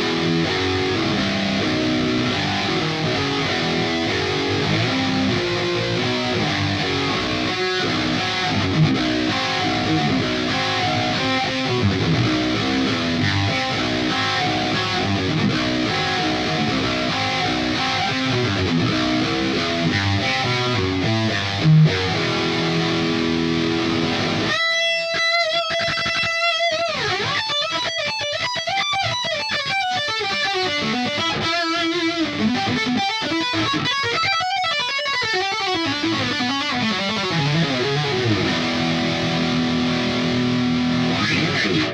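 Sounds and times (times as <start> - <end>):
electric guitar riffing and lead lines: 0.0 - 41.9.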